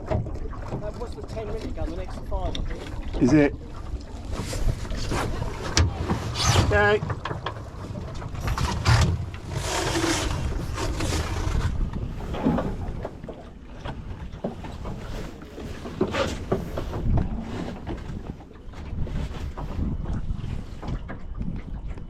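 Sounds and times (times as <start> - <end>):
rigging creaking and clicking: 0.0 - 22.0
wind on microphone: 0.0 - 22.0.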